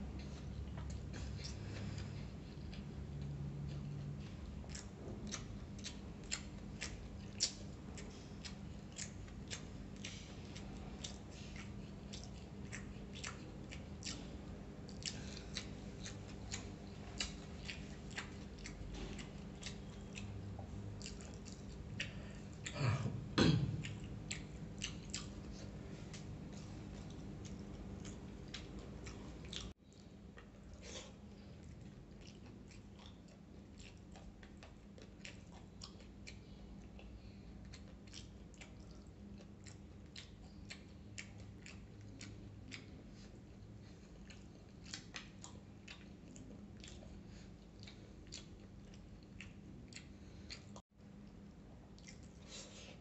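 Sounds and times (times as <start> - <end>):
wet chewing and lip-smacking: 0.0 - 22.8, 23.7 - 53.0
low steady hum: 0.0 - 53.0.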